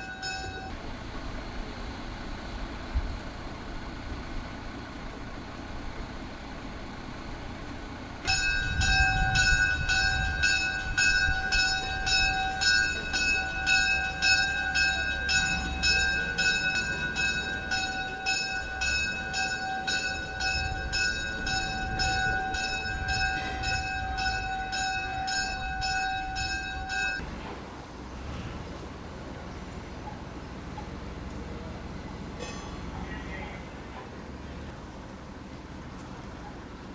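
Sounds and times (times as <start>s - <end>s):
locomotive bell ringing: 0.0s - 27.6s, 30.1s - 34.7s
train rumble: 0.0s - 36.9s.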